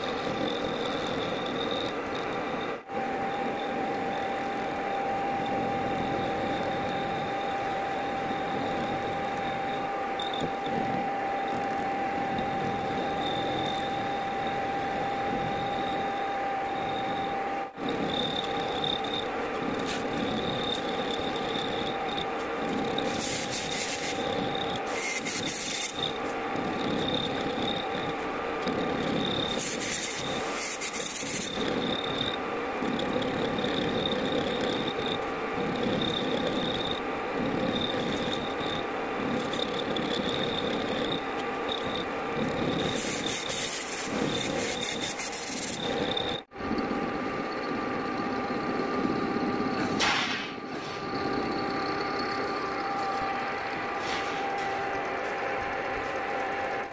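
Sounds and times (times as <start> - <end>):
cutter scraping metal: 0.0 - 56.9
lathe whine: 0.0 - 56.9.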